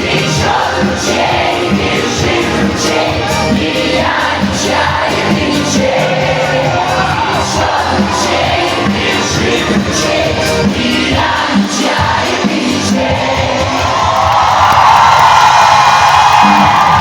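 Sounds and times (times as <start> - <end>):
folk-pop song with band: 0.0 - 13.9
audience noise: 0.0 - 17.0.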